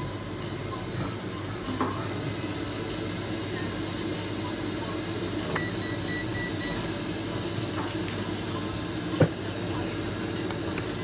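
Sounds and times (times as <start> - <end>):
electrical hum of equipment: 0.0 - 11.0.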